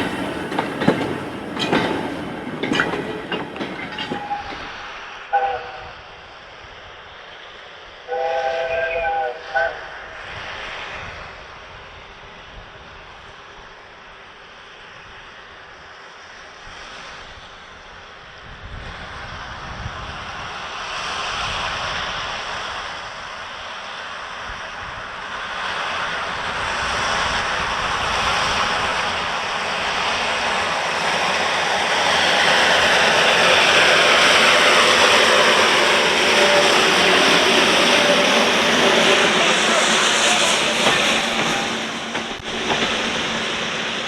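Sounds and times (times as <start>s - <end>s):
train approaching: 0.0s - 44.0s.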